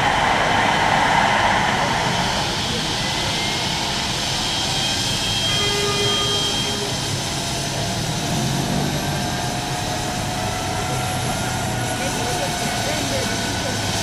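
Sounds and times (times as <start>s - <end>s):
helicopter turbine whine: 0.0s - 14.0s.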